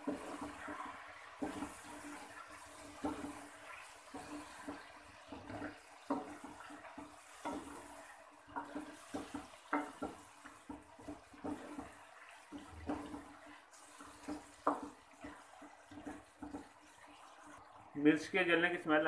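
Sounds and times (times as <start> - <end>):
spoon scraping and knocking pot: 0.0 - 17.0
food sizzling in oil: 0.0 - 18.7.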